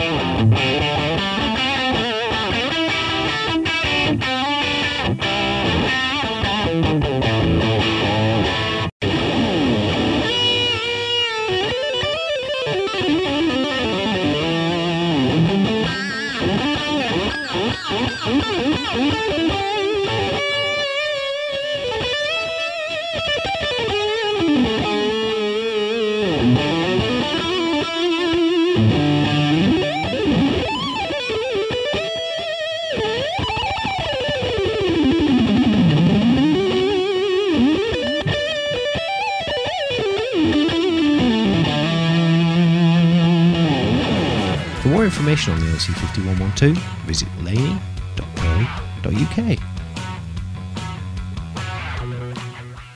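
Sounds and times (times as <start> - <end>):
electric guitar lead runs: 0.0 - 52.9.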